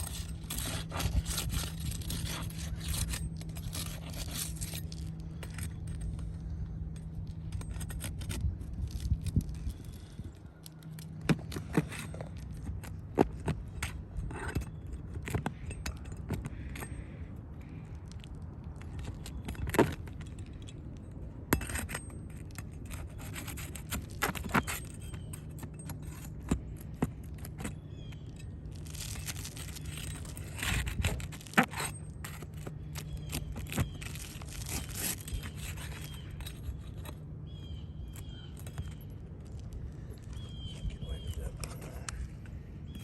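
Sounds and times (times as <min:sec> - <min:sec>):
hand tools scraping shingles: 0:00.0 - 0:20.6, 0:21.4 - 0:42.5
steady low hum: 0:00.0 - 0:43.0.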